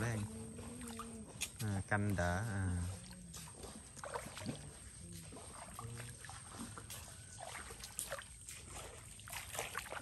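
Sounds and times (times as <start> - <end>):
footsteps wading through shallow water: 0.0 - 10.0.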